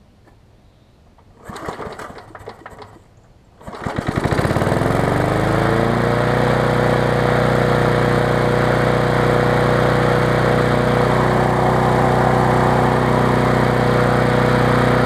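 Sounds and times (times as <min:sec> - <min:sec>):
lawn mower engine pull-started: 0:01.2 - 0:15.0.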